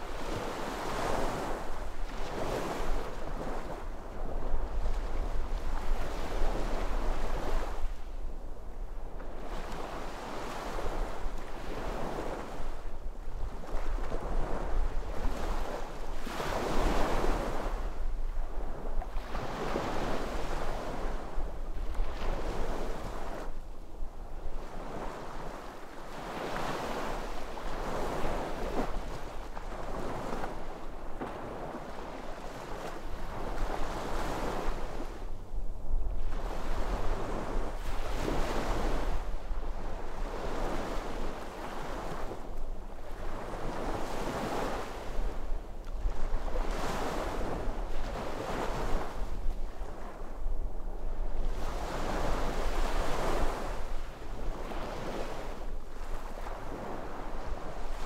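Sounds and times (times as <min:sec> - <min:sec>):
sea waves breaking on shore: 0:00.0 - 0:35.4, 0:36.0 - 0:58.0.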